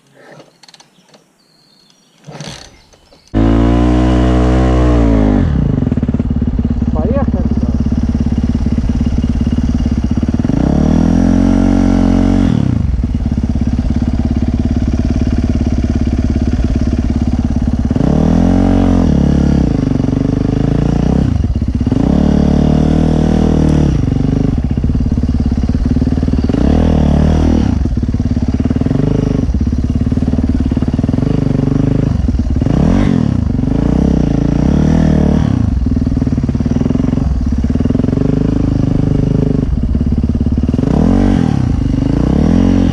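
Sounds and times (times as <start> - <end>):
dirt bike engine revving: 2.2 - 42.9.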